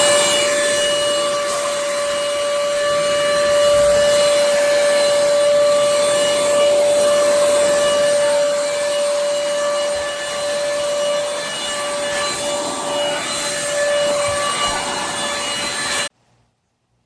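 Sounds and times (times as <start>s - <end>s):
stick vacuum running: 0.0s - 16.1s.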